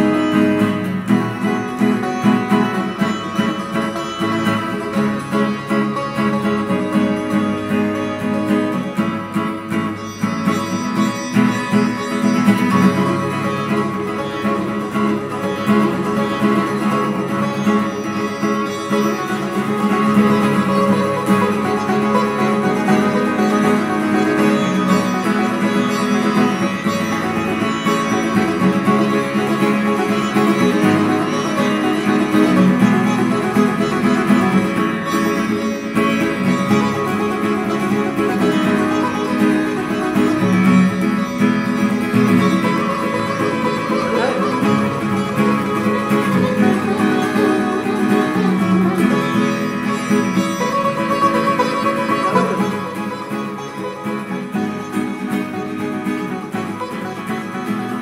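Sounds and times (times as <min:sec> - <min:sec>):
sitar melody: 0:00.0 - 0:58.0.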